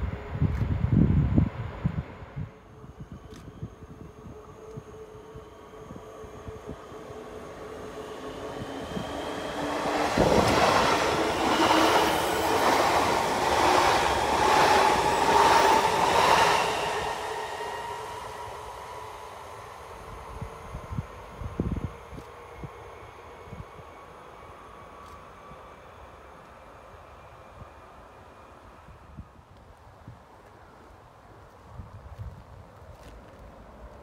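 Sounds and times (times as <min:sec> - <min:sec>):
electric train passing: 0:00.0 - 0:29.6.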